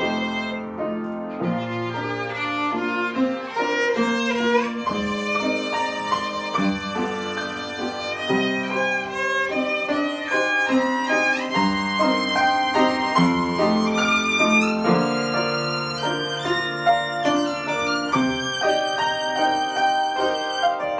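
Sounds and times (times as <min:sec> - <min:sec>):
solo violin melody: 0:00.0 - 0:20.9.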